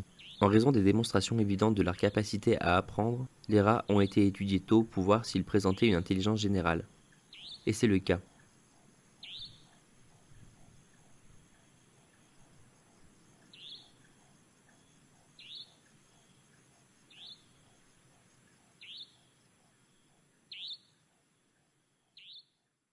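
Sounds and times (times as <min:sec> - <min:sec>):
faint background hiss: 0:00.0 - 0:22.9.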